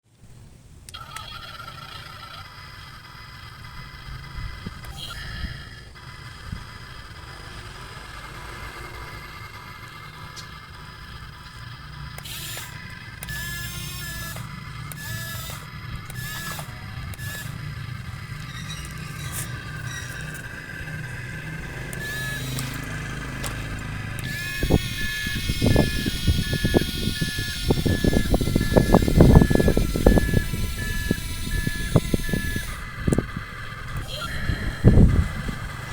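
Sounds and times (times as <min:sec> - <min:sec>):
small electric motors whining: 0:00.8 - 0:35.9.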